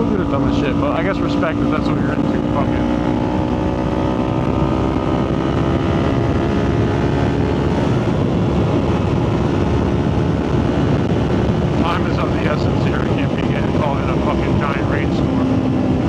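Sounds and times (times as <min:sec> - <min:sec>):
motorcycle engine cruising: 0:00.0 - 0:16.0
wind rush on microphone: 0:00.0 - 0:16.0.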